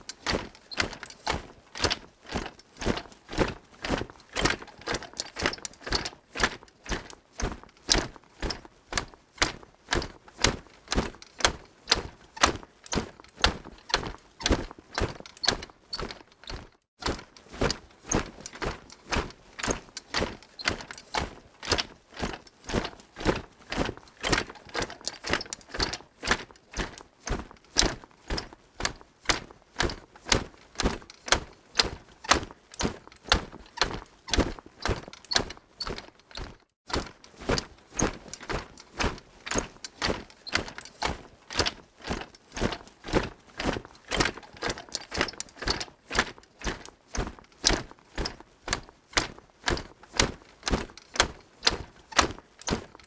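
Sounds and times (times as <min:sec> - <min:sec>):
soldiers marching in armour: 0:00.0 - 0:53.0.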